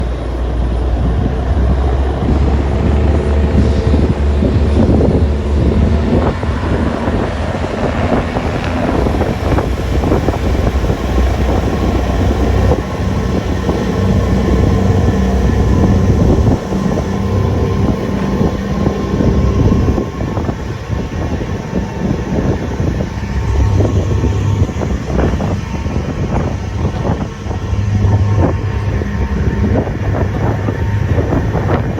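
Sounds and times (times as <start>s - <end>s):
boat engines droning: 0.0s - 31.9s.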